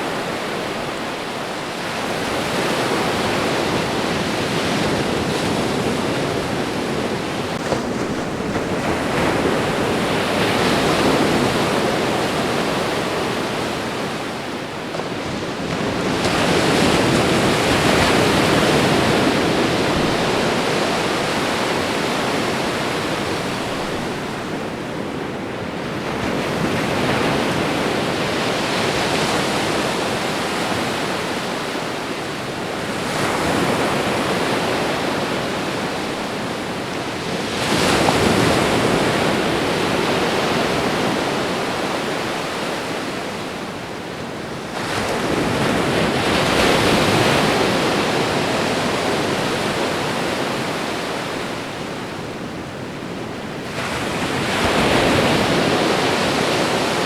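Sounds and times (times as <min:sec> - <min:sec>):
ocean waves washing ashore: 0:00.0 - 0:57.0.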